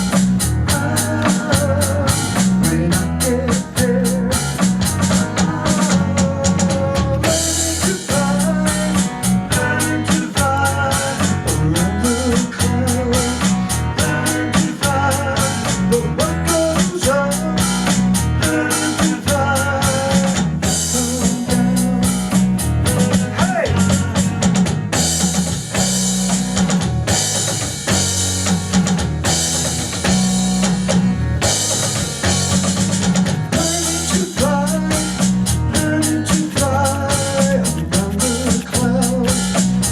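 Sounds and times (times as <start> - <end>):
band playing instrumental groove: 0.0 - 39.9
bass line: 0.0 - 39.9
drum kit beat: 0.0 - 39.9.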